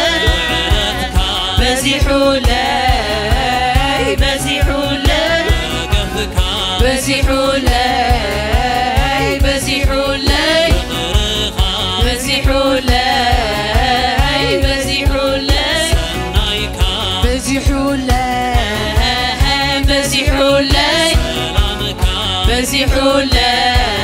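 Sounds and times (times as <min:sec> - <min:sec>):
fast drum beat: 0:00.0 - 0:24.0
person singing with band: 0:00.0 - 0:24.0.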